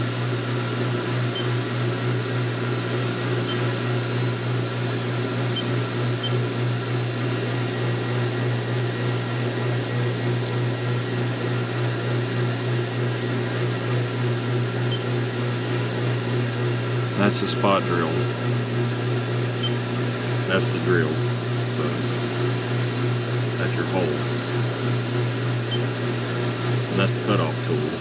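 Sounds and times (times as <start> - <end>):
machine shop hum with regular pulse: 0.0 - 28.0.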